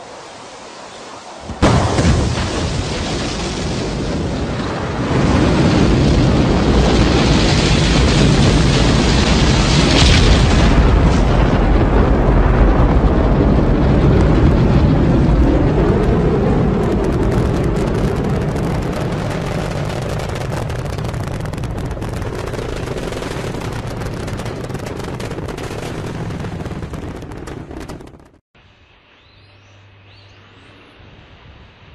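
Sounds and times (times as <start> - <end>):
rocket engine rumble: 0.0 - 28.4.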